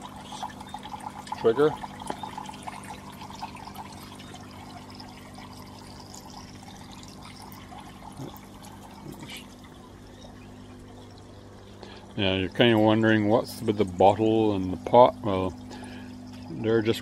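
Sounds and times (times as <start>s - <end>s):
steady low hum: 0.0s - 17.0s
water pouring and trickling: 0.0s - 17.0s.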